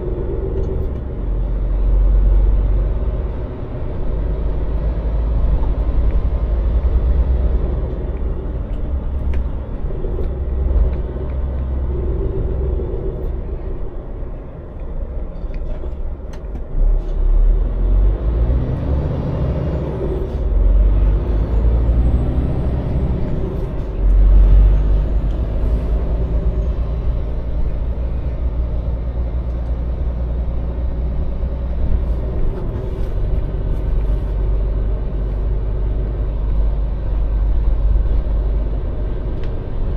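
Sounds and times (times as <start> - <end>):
lorry diesel engine rumble: 0.0 - 39.9
road noise: 0.0 - 39.9.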